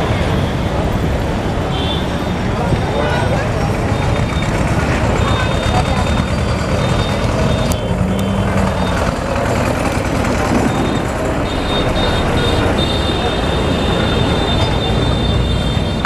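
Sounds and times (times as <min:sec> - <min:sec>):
tractor engines rumbling: 0:00.0 - 0:16.0.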